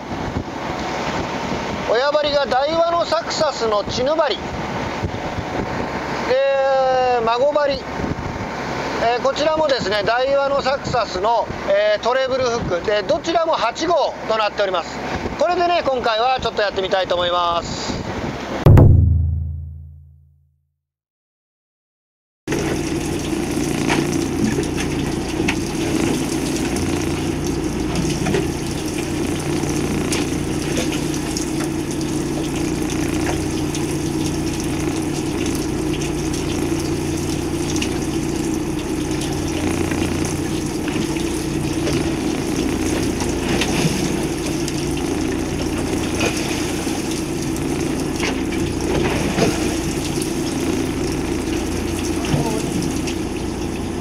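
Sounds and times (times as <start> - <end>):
water rushing along hull: 0.0 - 18.5, 22.5 - 54.0
boat engine hum: 0.0 - 19.5, 22.5 - 54.0.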